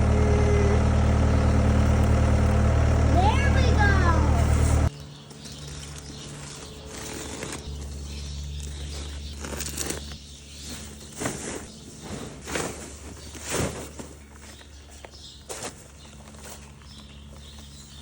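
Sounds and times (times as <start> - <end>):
skid steer engine humming: 0.0 - 18.0.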